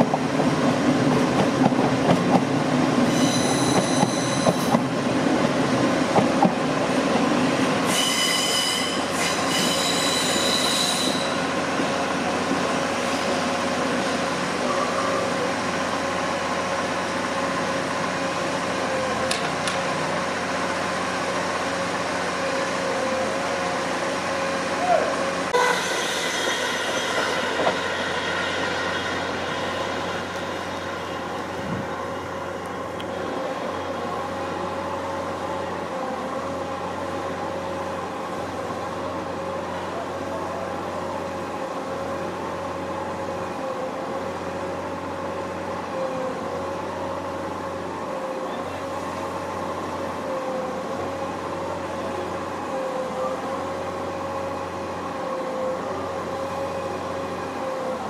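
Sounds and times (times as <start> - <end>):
electric train whine: 0.0 - 58.0
low rail rumble: 0.0 - 58.0.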